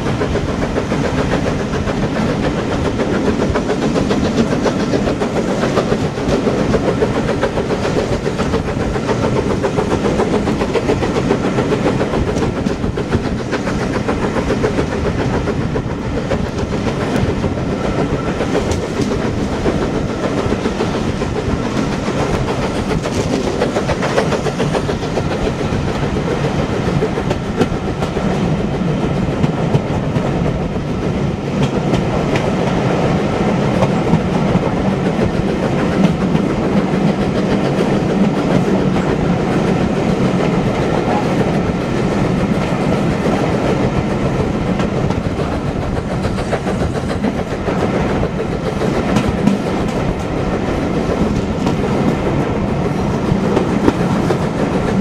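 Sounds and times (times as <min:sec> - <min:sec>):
train rumbling on track: 0:00.0 - 0:55.0
wheels clickety-clack: 0:00.0 - 0:55.0.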